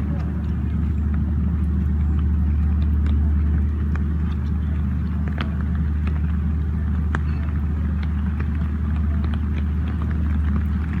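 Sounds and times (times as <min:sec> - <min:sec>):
sharp drips and taps: 0:00.0 - 0:11.0
steady low rumble: 0:00.0 - 0:11.0.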